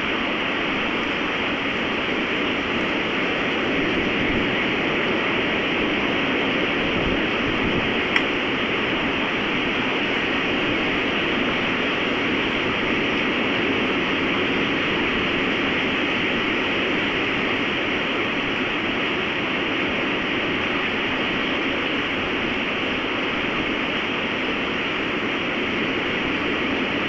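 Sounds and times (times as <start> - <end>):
strong storm wind: 0.0 - 27.0.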